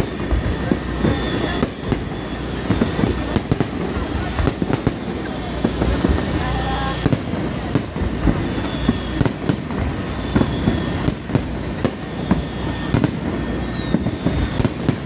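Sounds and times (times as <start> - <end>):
firework shells bursting: 0.0 - 15.0.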